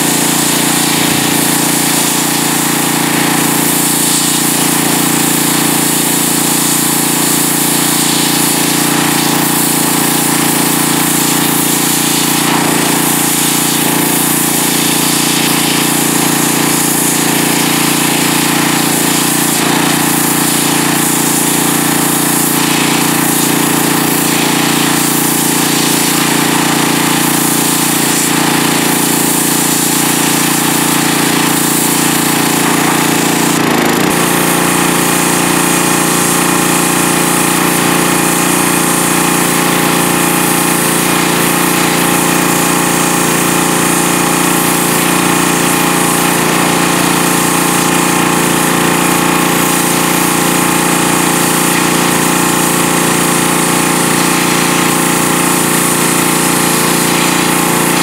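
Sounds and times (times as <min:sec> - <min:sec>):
pressure washer water jet hissing: 0:00.0 - 0:58.0.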